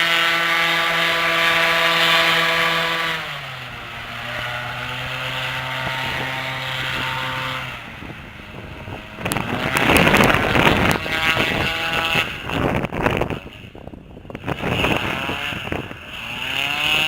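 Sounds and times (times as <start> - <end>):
airboat engine and propeller: 0.0 - 17.0
wind buffeting the microphone: 0.3 - 17.0.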